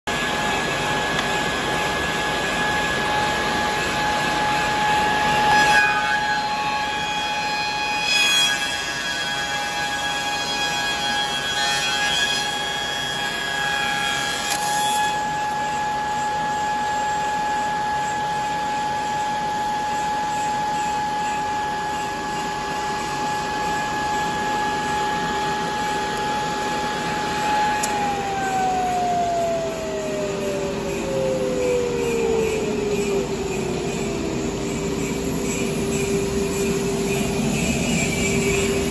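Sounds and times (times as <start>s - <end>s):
milling machine whining: 0.1s - 8.0s, 12.4s - 38.9s.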